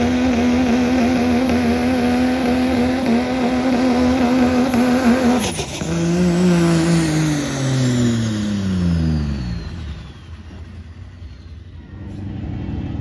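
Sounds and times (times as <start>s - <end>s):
diesel engine revving down: 0.0s - 13.0s
faint high whine: 0.0s - 13.0s.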